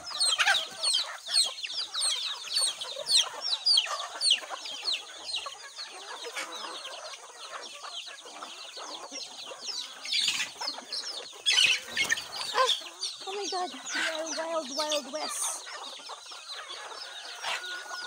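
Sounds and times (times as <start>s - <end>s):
chicks peeping: 0.0s - 18.0s
hens clucking: 0.0s - 18.0s.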